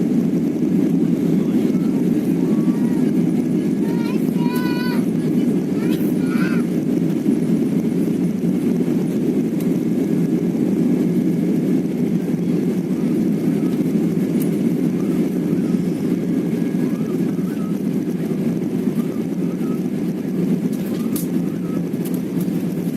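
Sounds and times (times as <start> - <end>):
airliner cabin engine rumble: 0.0 - 22.9.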